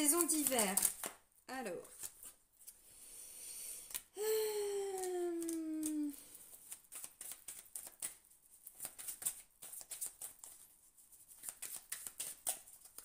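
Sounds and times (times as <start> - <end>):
cards shuffling: 0.0 - 2.8, 4.7 - 13.0.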